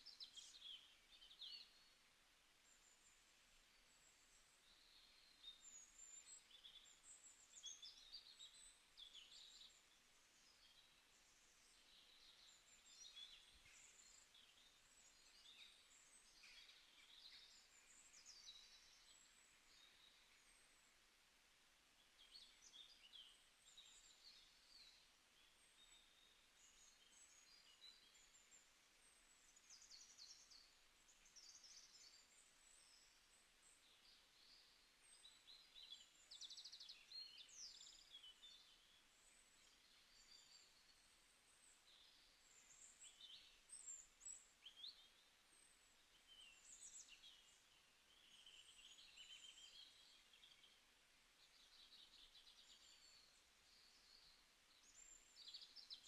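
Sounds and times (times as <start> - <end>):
low hiss: 0.0 - 56.0
small birds chirping: 0.0 - 56.0.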